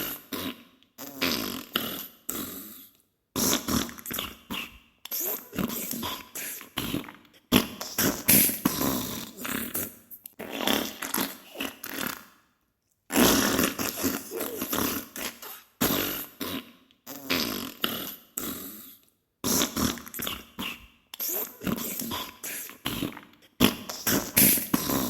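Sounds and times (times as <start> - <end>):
sputtering fart noises: 0.0 - 2.5, 3.4 - 12.4, 13.1 - 18.7, 19.4 - 25.0.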